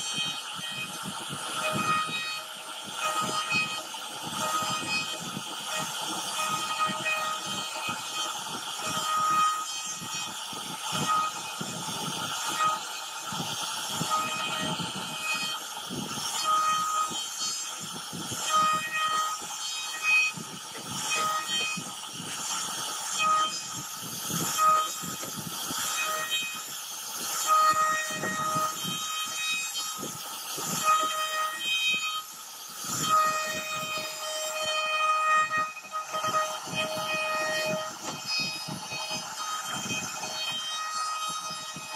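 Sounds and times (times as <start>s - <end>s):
high-pitched spindle whine: 0.0s - 41.9s
router cutting wood: 0.0s - 41.9s.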